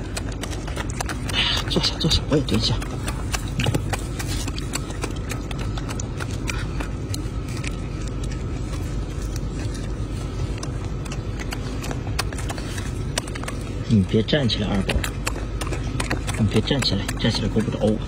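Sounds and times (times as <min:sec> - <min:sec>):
monkey chewing fruit: 0:00.0 - 0:18.0.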